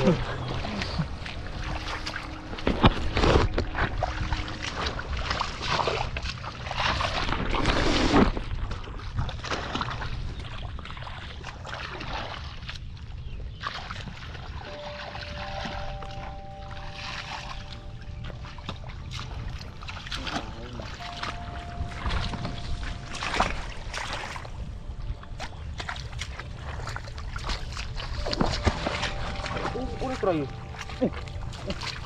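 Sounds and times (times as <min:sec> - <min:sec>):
muddy water splashing: 0:00.0 - 0:32.0.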